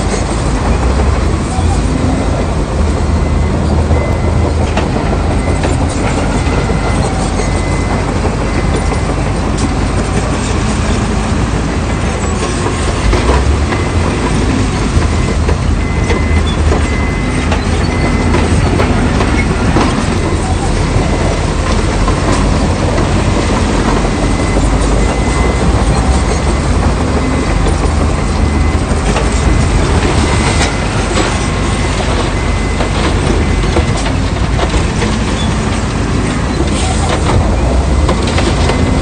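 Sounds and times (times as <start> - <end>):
diesel engine drone: 0.0 - 39.0
steel tracks clattering: 0.0 - 39.0.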